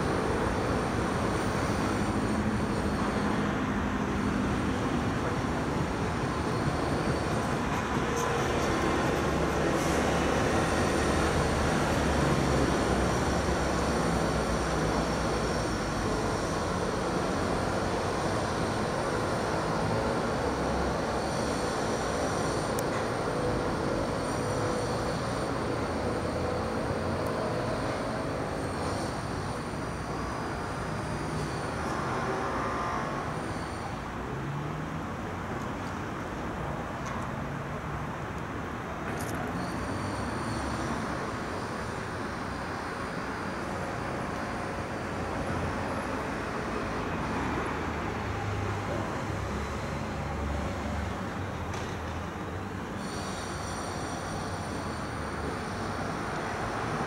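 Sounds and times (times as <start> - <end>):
distant city traffic rumble: 0.0 - 57.0
faint train rail noise: 0.0 - 57.0.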